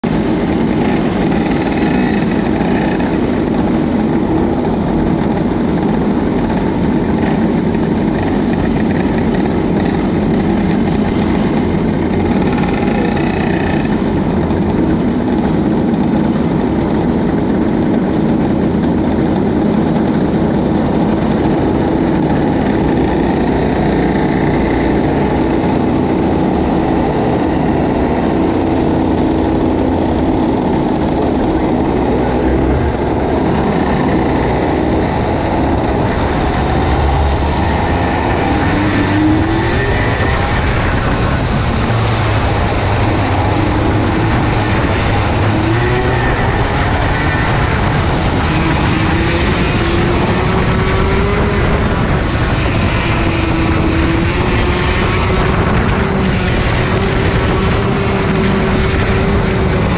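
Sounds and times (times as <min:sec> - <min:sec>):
kart engines idling: 0:00.0 - 0:59.9.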